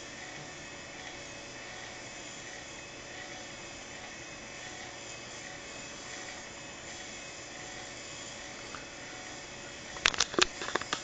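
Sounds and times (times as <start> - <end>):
beacon drive motor whirring: 0.0 - 11.0.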